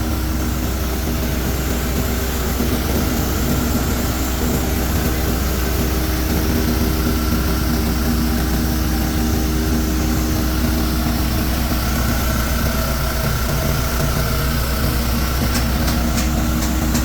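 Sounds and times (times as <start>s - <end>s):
engine drone: 0.0s - 17.0s
grinding mill hiss: 0.0s - 17.0s.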